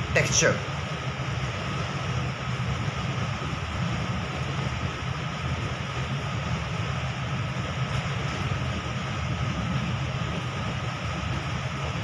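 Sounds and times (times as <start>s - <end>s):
machine low hum: 0.0s - 12.0s.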